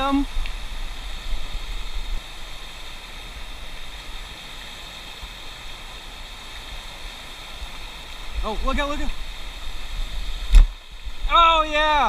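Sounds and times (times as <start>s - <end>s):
water rushing over spillway: 0.0s - 12.0s.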